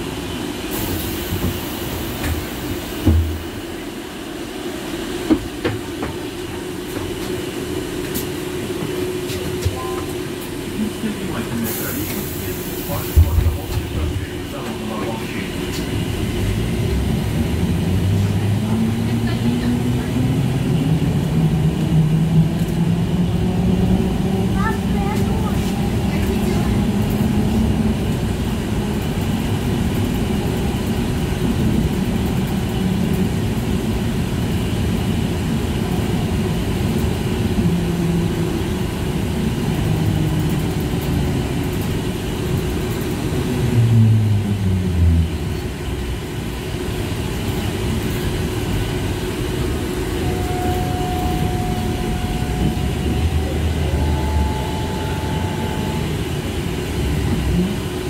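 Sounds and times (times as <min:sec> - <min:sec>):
trolleybus running noise: 0:00.0 - 0:58.0.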